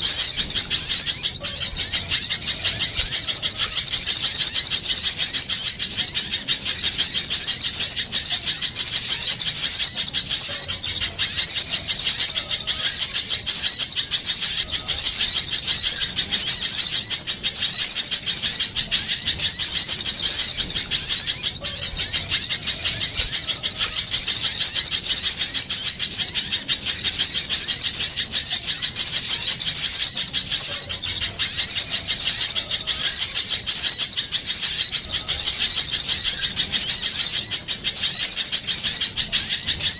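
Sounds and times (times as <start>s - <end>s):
flock of small birds chattering: 0.0s - 39.9s.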